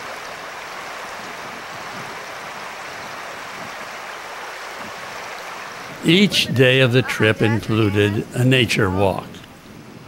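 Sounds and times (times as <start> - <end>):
river water rushing over rocks: 0.0 - 9.7.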